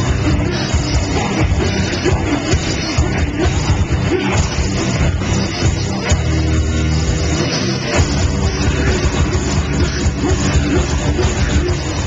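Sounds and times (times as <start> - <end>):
busy drumming: 0.0 - 12.0
metalcore band playing live: 0.0 - 12.0.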